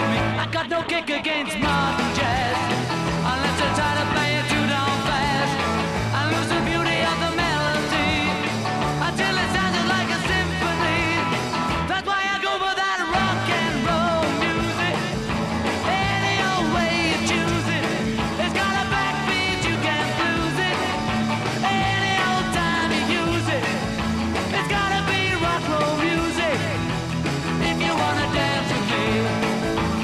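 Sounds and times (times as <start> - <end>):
steady bass line: 0.0 - 0.8, 1.6 - 12.0, 13.1 - 30.0
rock and roll song with singer: 0.0 - 30.0.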